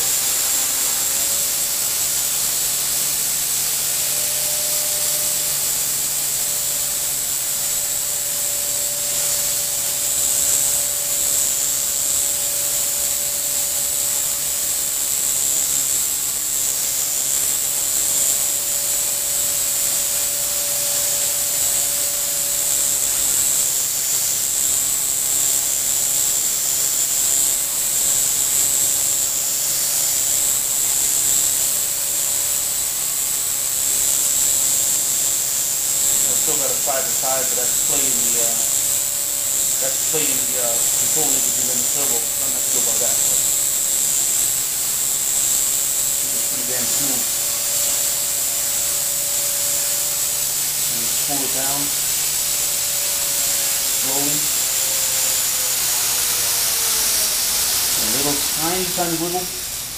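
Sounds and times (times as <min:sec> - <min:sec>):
rc helicopter motor whine: 0:00.0 - 0:59.9
rotor blades hissing: 0:00.0 - 0:59.9.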